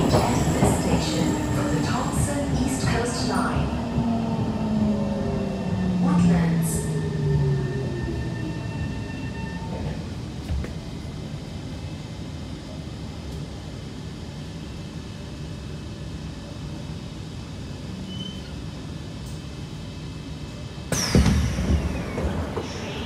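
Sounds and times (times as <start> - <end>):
train carriage rumble and hum: 0.0 - 23.0.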